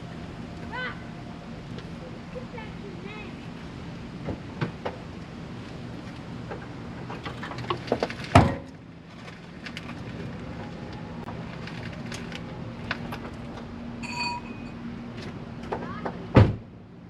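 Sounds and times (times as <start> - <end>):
low steady hum: 0.0 - 15.4.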